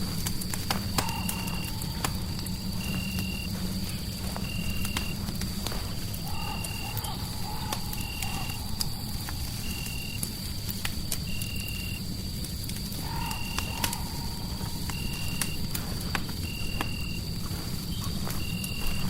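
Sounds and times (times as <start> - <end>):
fireplace crackling: 0.0 - 19.0.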